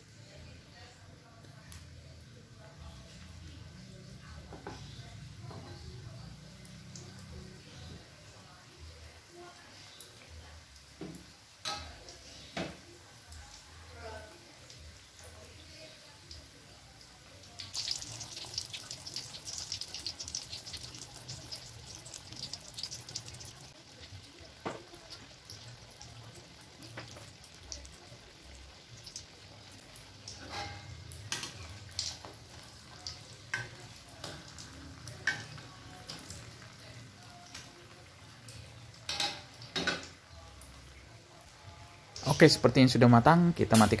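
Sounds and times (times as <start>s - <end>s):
food deep-frying in oil: 1.4s - 44.0s.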